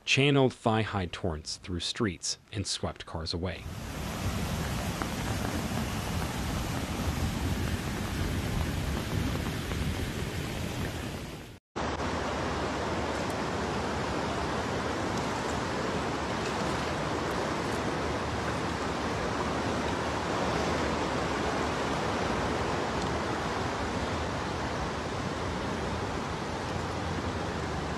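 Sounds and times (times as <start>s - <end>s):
floodwater rushing: 3.6s - 27.9s.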